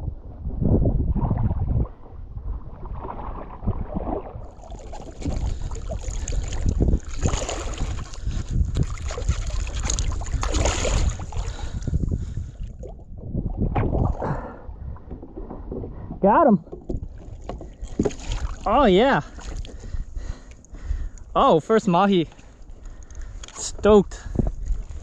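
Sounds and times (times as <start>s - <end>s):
wind buffeting microphone: 0.0s - 25.0s
water sloshing and splashing: 0.3s - 25.0s.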